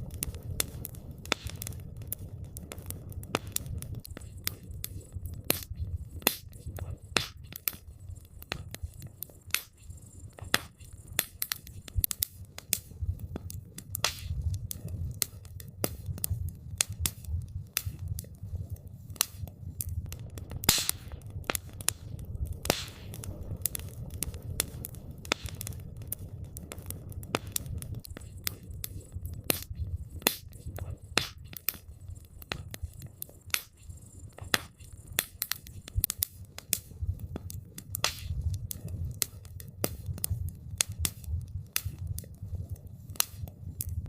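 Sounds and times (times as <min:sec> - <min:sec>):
campfire crackling and popping: 0:00.0 - 0:44.0
low rumble of flames: 0:00.0 - 0:44.0.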